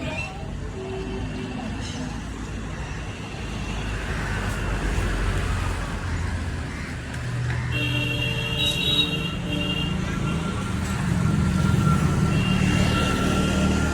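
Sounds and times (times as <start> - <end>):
road traffic rumble: 0.0 - 13.9.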